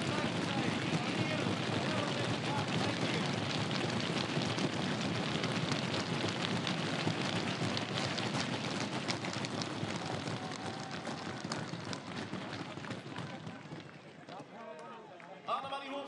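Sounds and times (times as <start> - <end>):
crowd clapping and cheering: 0.0 - 16.0.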